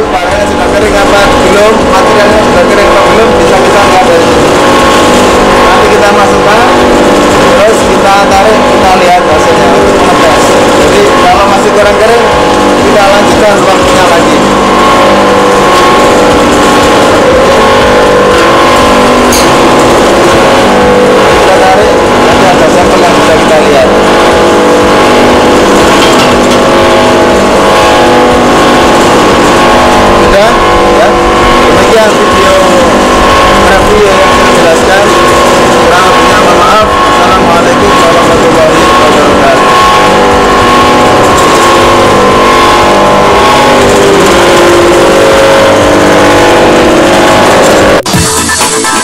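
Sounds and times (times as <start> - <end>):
gas burner blower hum: 0.0 - 48.1.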